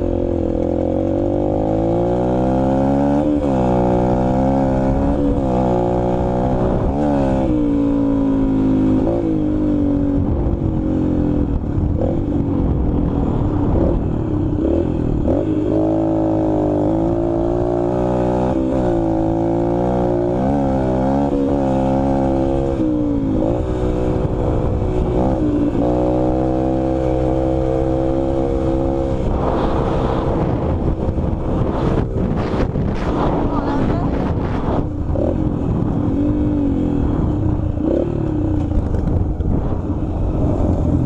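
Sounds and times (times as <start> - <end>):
quad engine revving: 0.0 - 12.4, 13.6 - 41.0
wind noise on microphone: 0.0 - 41.0.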